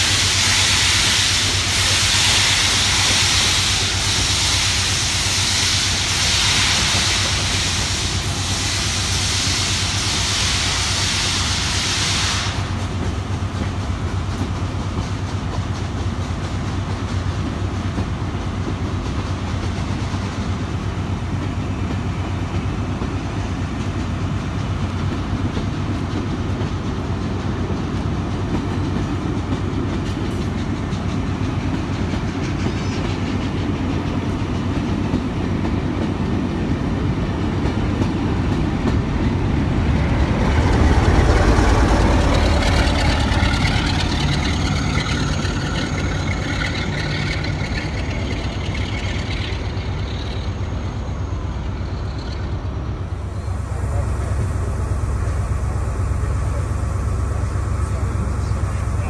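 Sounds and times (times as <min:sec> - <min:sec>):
train wheels clattering over rails: 0:00.0 - 0:54.3
diesel locomotive engine: 0:00.0 - 0:59.0.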